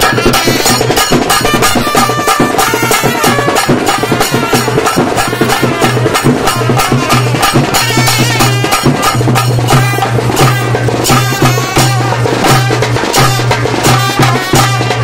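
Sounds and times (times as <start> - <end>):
barrel drums beating fast rhythm: 0.0 - 15.0
trumpets playing melody: 0.0 - 15.0.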